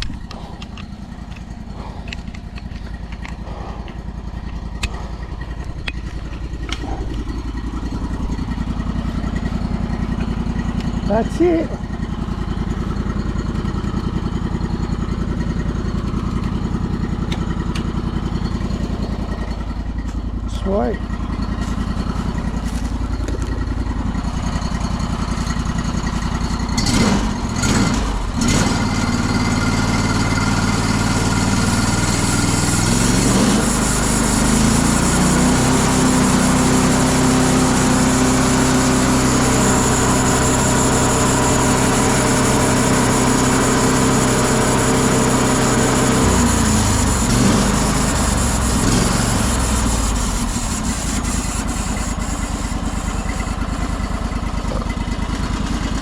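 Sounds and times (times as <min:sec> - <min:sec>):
petrol engine revving: 0:00.0 - 0:56.0.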